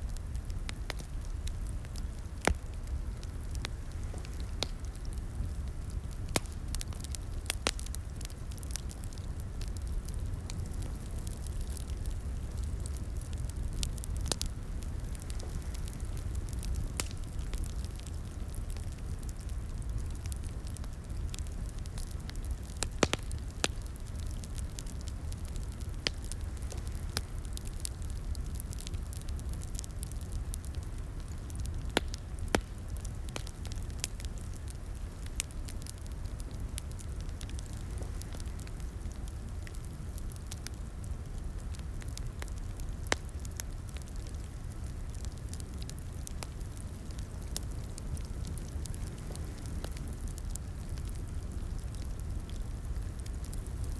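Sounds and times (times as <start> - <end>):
low rumble of flames: 0.0 - 53.9
wood fire crackling and popping: 0.0 - 53.9.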